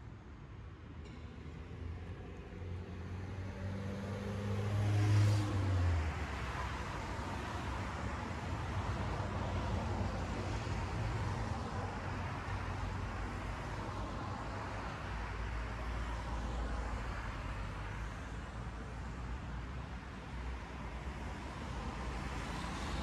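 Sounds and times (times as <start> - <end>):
cars driving past: 1.1 - 23.0.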